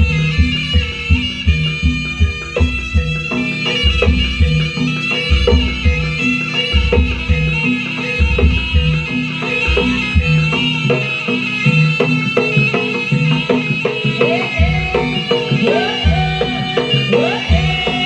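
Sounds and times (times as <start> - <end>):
drums: 0.0 - 18.0
shrill reed melody: 0.0 - 18.0.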